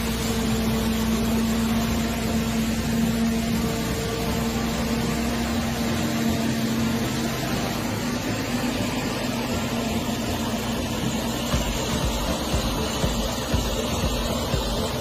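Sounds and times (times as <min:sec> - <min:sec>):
forage harvester cutting crop: 0:00.0 - 0:15.0
steady hum: 0:00.0 - 0:15.0.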